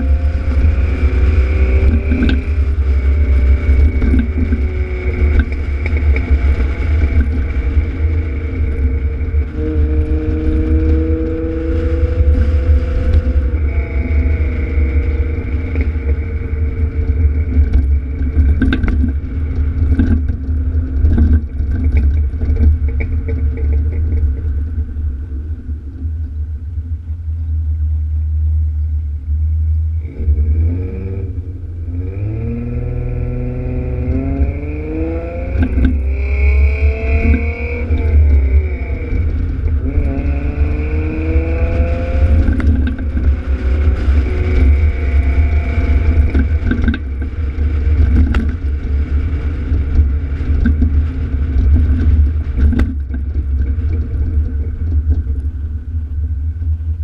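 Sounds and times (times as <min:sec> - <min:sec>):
car exhaust rumble while driving: 0:00.0 - 0:57.0.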